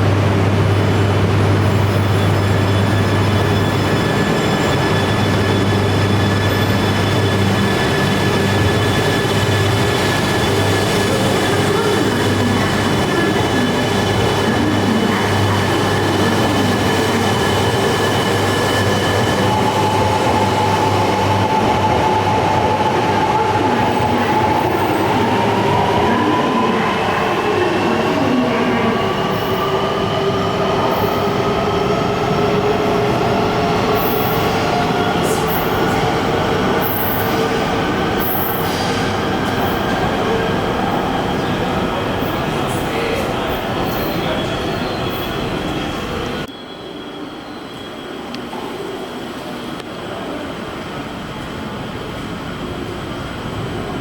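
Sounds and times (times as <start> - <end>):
train wheels rumbling on rail: 0.0 - 46.5.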